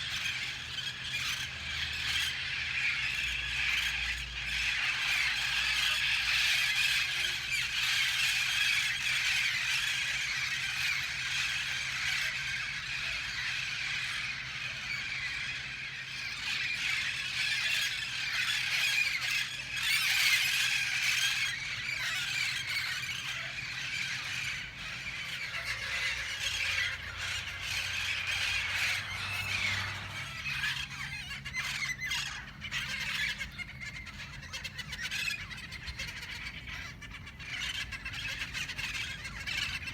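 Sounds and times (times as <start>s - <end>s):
parrots screeching and squawking: 0.0s - 39.9s.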